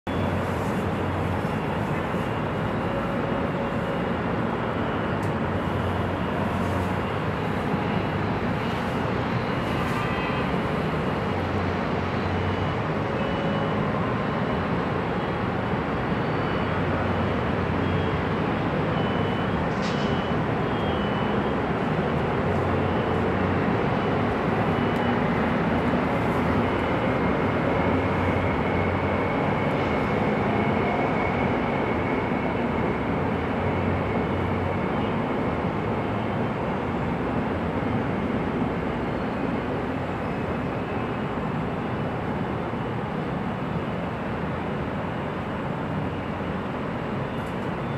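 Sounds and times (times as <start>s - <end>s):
freeway traffic noise: 0.0s - 47.9s.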